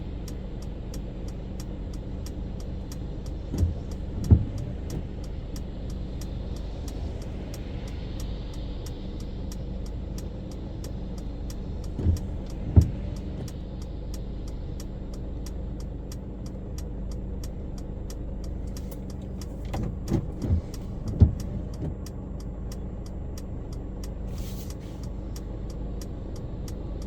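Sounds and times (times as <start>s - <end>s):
engine and road rumble: 0.0s - 27.0s
tyres hissing on wet road: 0.0s - 27.0s.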